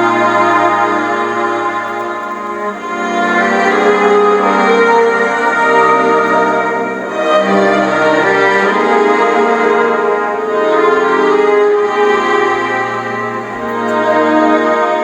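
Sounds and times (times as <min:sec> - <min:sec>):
orchestral music with strings: 0:00.0 - 0:15.0.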